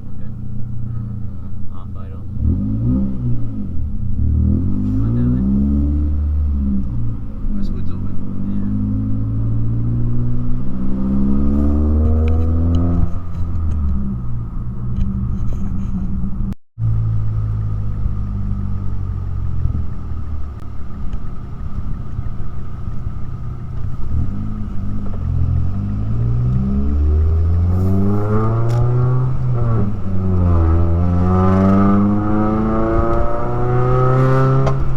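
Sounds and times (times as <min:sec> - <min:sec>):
car engine accelerating and droning: 0:00.0 - 0:34.9.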